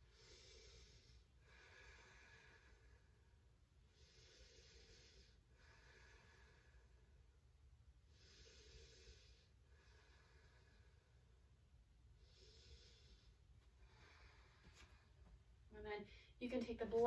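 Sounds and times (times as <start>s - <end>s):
slow deep human breathing: 0.0s - 15.5s.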